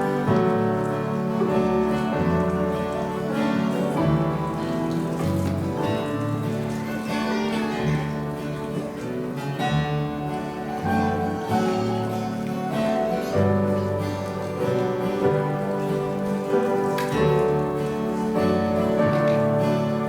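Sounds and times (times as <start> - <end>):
guitar chords: 0.0 - 20.0
worship band music: 0.0 - 20.0.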